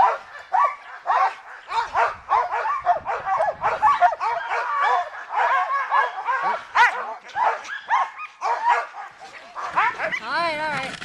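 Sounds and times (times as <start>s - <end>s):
sled dogs barking and yelping: 0.0s - 11.0s.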